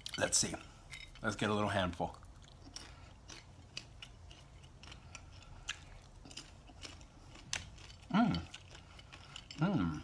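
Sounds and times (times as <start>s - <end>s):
person chewing popcorn: 0.0s - 10.0s.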